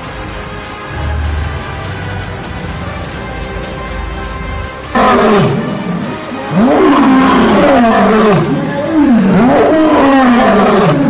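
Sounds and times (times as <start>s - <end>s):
lion roaring: 0.9s - 11.0s.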